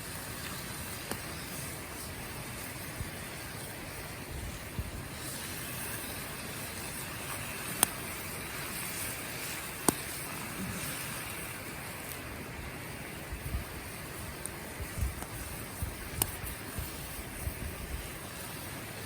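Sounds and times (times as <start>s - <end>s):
sharp crackling pops: 0.0s - 19.0s
wood fire burning with hiss: 0.0s - 19.0s.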